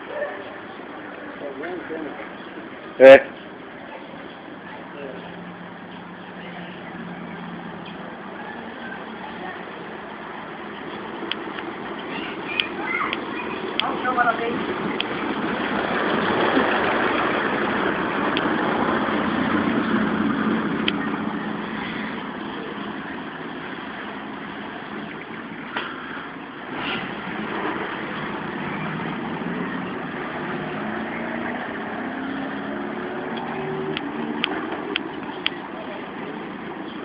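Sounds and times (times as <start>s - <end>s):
loud road noise: 0.0s - 37.0s.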